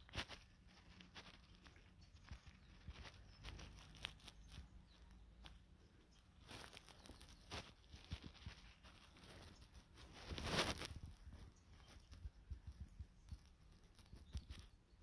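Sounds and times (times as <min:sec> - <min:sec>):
fabric sachet rustling on fleece: 0:00.0 - 0:14.8.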